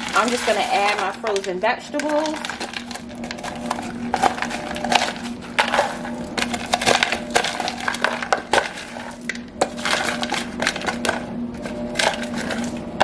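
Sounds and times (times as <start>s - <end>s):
frozen beans clattering in a pot: 0.0s - 13.0s.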